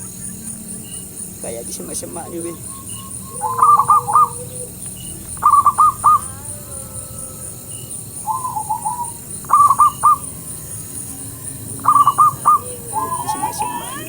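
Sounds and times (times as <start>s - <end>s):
night bird calling: 0.0s - 14.0s.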